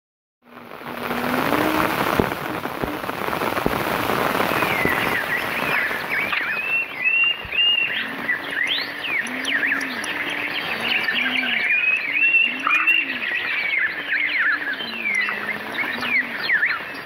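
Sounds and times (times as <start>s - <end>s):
low rise-and-fall bird call: 0.5s - 17.0s
small songbirds chirping: 0.7s - 17.0s.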